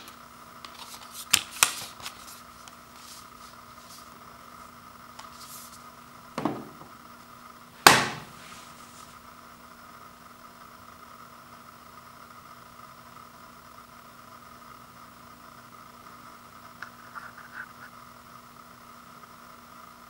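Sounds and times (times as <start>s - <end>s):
faint hum and hiss: 0.0s - 20.0s.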